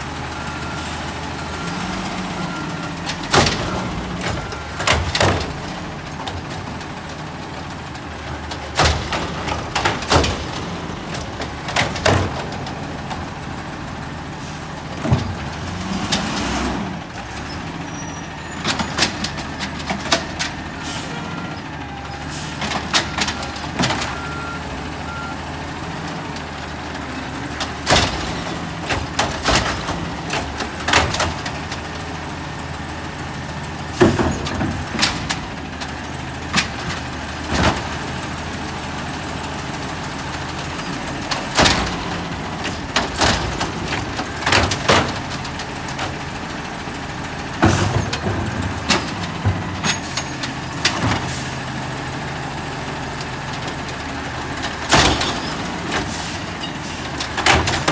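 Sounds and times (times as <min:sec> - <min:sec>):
diesel engine droning: 0:00.0 - 0:57.9
trash carts clanking and banging: 0:00.0 - 0:57.9.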